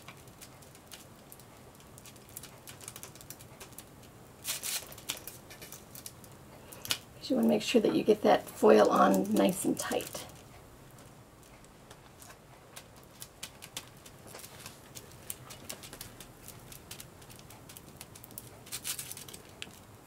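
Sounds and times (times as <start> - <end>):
aluminum foil crackling: 0.0 - 20.0.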